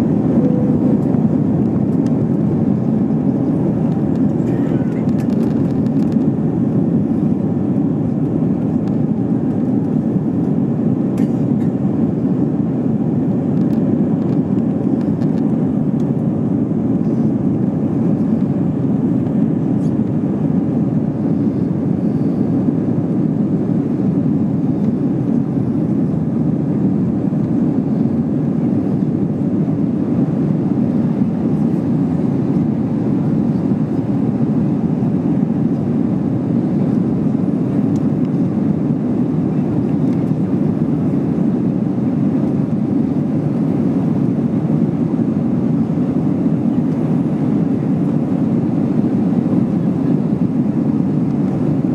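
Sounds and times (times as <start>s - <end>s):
airplane cabin rumble: 0.0s - 51.9s.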